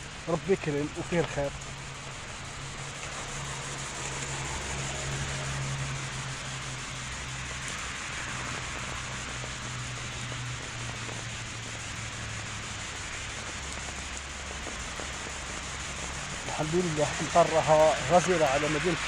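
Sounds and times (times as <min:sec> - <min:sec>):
heavy rain on wet street: 0:00.0 - 0:19.0.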